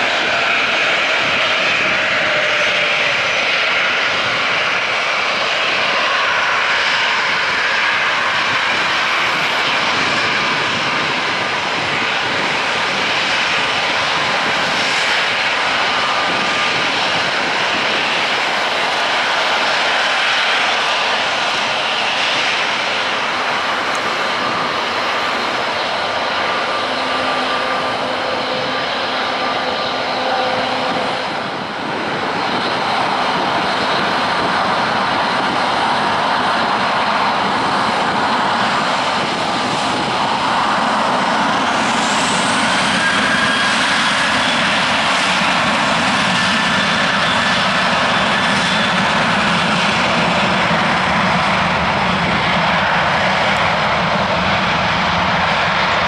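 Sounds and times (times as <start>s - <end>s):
jet engines rumbling with whine: 0.0s - 56.0s.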